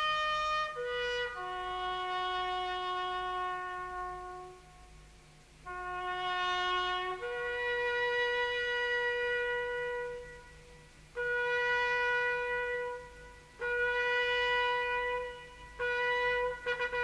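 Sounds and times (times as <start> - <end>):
solo trumpet long notes: 0.0 - 17.0.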